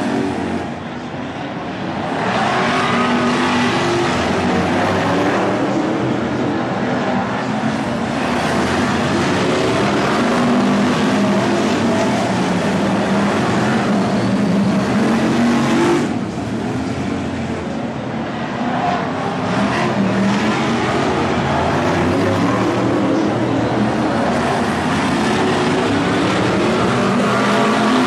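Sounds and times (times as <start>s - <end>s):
racing car engines at full throttle: 0.0s - 28.0s.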